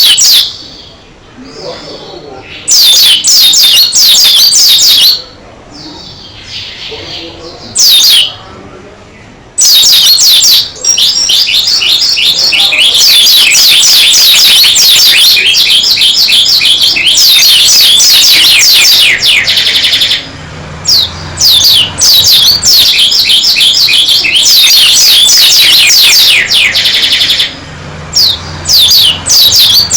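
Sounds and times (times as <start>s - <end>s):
bird chattering song: 0.0s - 8.5s, 9.1s - 29.9s.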